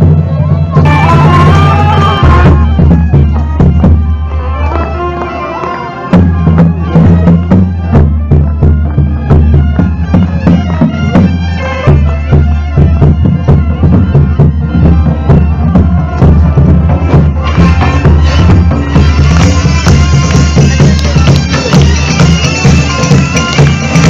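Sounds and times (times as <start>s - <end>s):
bagpipes playing a tune: 0.0s - 24.0s
drum beating: 0.0s - 24.0s.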